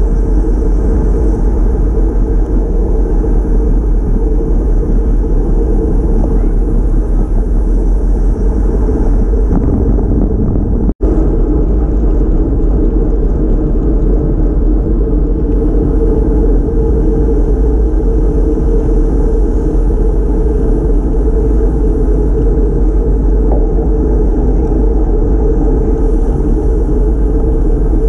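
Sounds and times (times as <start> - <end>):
tyre and road noise: 0.0 - 28.0
wind rumble on microphone: 0.0 - 28.0.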